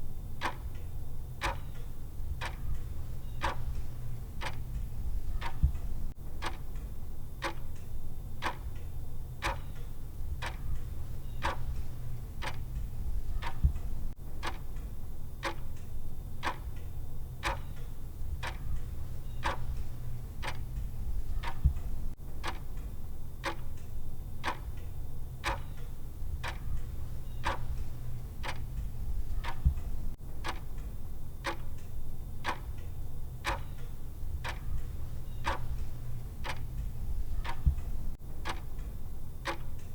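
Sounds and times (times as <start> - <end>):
low steady hum: 0.0 - 39.9
clock-style ticking: 0.4 - 39.9.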